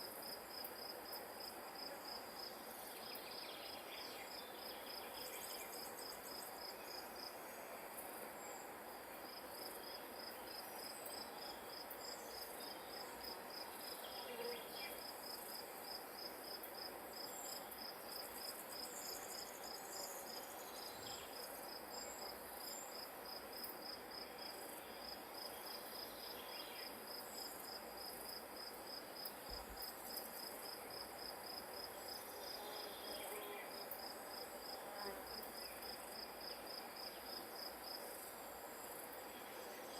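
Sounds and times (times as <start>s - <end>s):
insects chirping trill: 0.0s - 39.9s
soft wind hiss: 0.0s - 39.9s.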